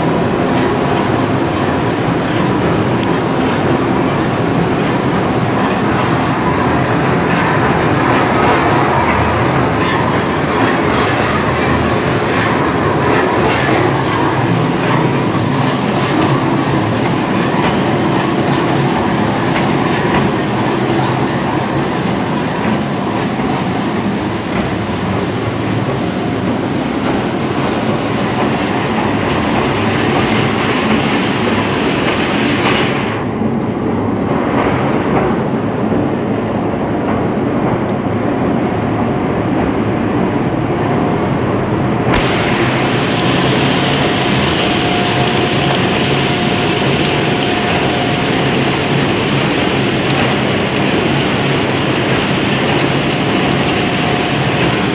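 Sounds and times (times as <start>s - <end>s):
machinery rattle and rumble: 0.0s - 54.9s.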